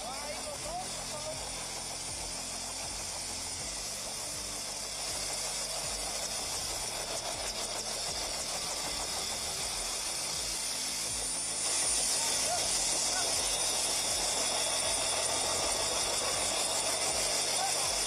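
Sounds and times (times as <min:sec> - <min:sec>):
engine running: 0:00.0 - 0:18.0
thin high whine: 0:00.0 - 0:18.0.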